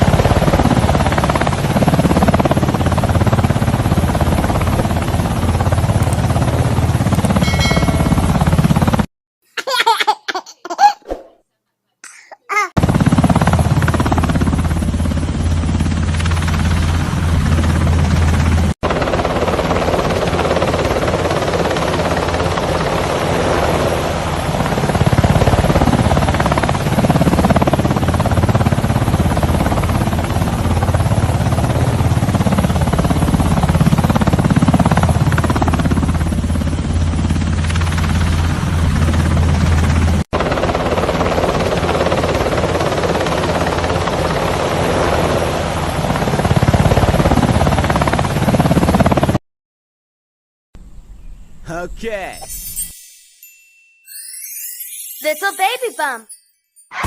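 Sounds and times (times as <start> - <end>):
helicopter rotor and engine: 0.0 - 9.1, 12.8 - 49.4.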